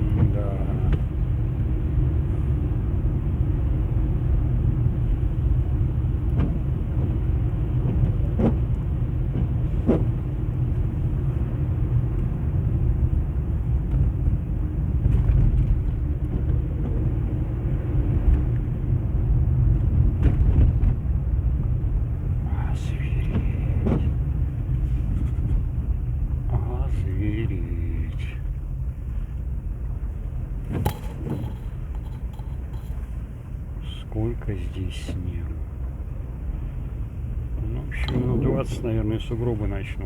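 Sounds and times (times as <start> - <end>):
car driving on snow: 0.0 - 40.0.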